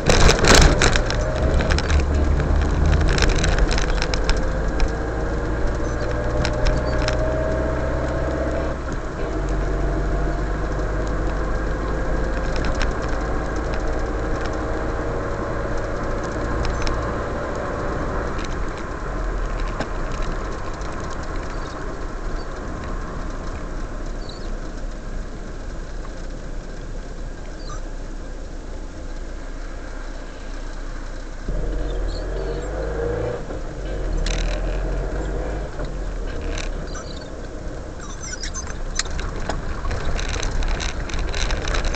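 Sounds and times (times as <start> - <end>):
car engine running: 0.0 - 41.9
tyre and road noise on wet road: 0.0 - 41.9.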